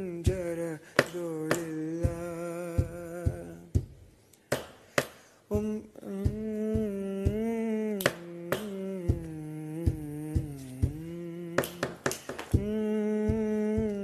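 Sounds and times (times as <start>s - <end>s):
man humming a melody: 0.0s - 3.9s, 5.5s - 14.0s.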